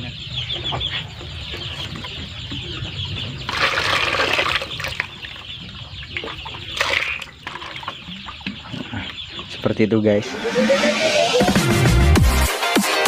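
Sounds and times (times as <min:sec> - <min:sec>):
chicks peeping: 0:00.0 - 0:12.1.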